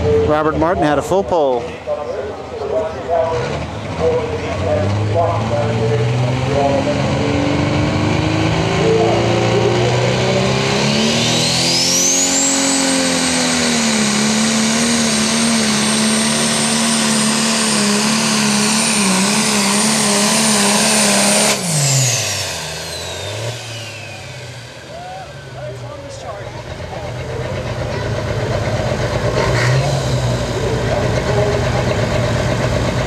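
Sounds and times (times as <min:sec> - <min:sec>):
high turbo whine: 0:00.0 - 0:33.0
tractor engine at full throttle: 0:00.0 - 0:33.0.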